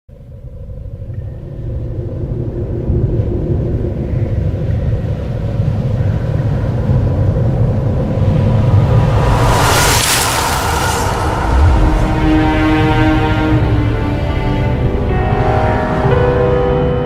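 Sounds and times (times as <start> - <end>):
deep steady rumble: 0.1 - 15.7.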